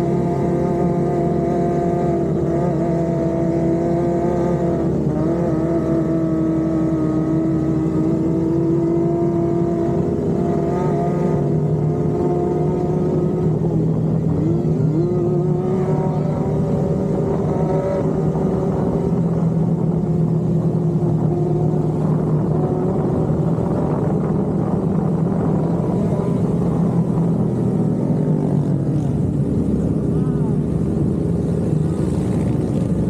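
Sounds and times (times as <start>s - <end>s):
motorcycle engines cruising: 0.0s - 33.0s.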